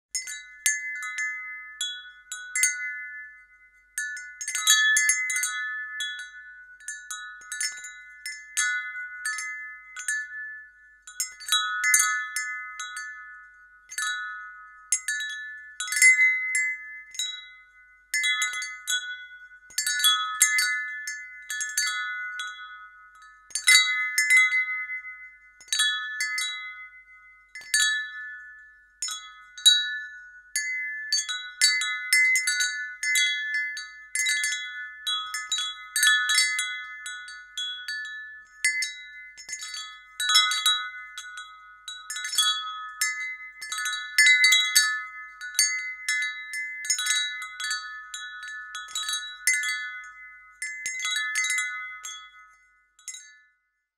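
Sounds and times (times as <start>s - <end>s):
wind chime tinkling: 0.0s - 53.9s.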